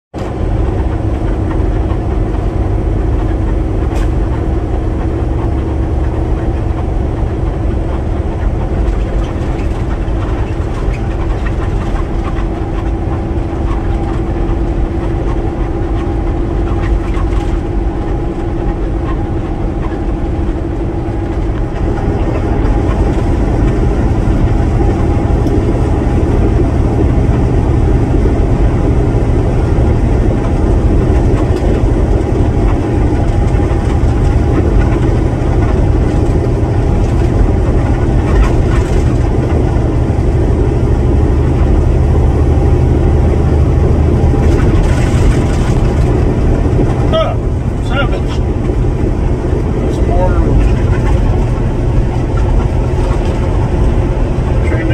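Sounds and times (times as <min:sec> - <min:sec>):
road noise: 0:00.1 - 0:54.9
truck engine rumble: 0:00.1 - 0:54.9
steady drone: 0:00.2 - 0:54.9.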